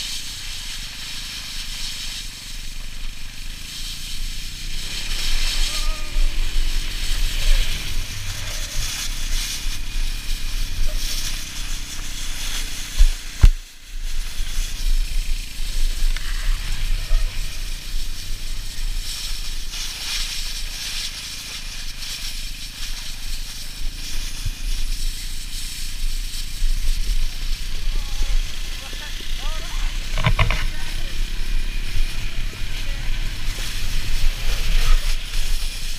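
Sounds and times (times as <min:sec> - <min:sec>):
sleds scraping over snow: 0:00.0 - 0:35.9.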